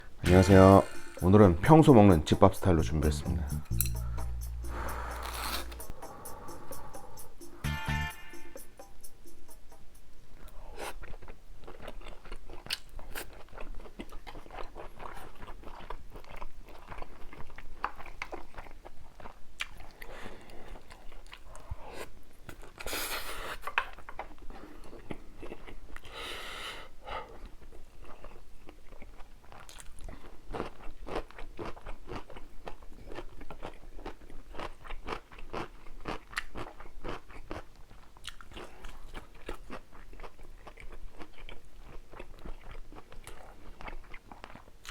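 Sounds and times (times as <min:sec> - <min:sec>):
person chewing and crunching: 0:03.3 - 0:07.7, 0:10.4 - 0:26.2, 0:27.2 - 0:44.9.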